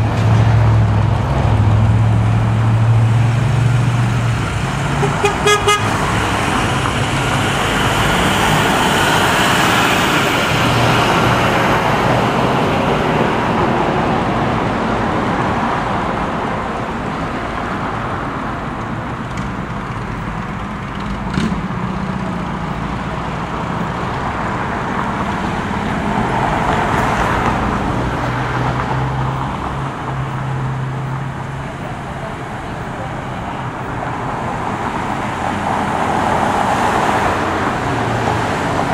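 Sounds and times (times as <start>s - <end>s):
road traffic: 0.0s - 38.9s
vehicles passing: 0.0s - 38.9s.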